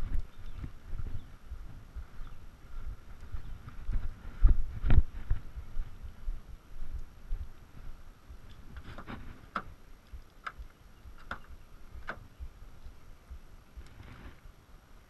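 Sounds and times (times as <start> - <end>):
low rumbling microphone noise: 0.0 - 15.0.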